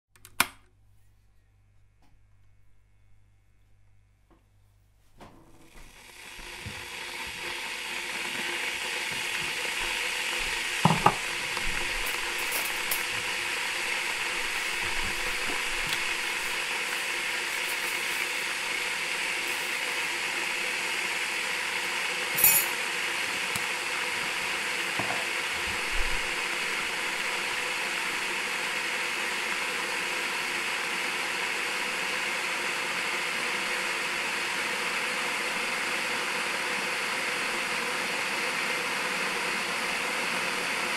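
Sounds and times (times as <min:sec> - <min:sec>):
electric kettle heating water: 0:05.2 - 0:40.9.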